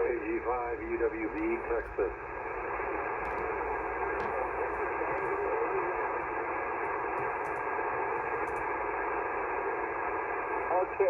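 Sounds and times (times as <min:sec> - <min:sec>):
radio receiver hiss: 0:00.0 - 0:11.0.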